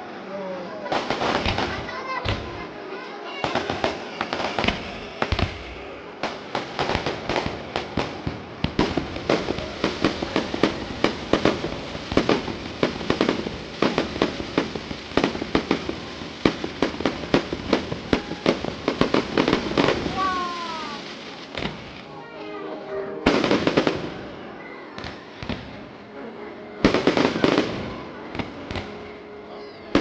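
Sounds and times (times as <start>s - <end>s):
fireworks bursting: 0.8s - 22.2s, 23.2s - 26.1s, 26.8s - 30.0s.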